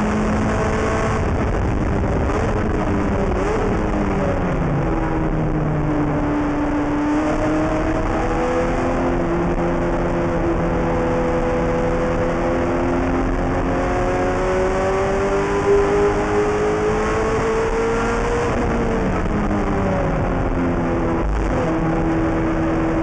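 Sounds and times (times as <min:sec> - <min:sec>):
race car engine at speed: 0:00.0 - 0:23.0.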